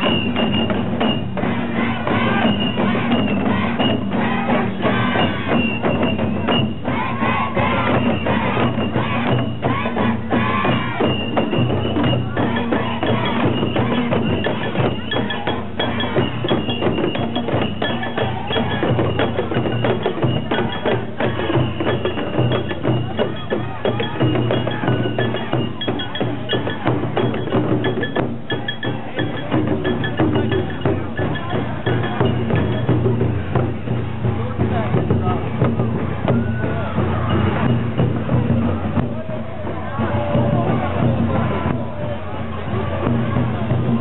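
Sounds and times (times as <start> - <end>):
fan drums beaten fast: 0.0 - 44.0.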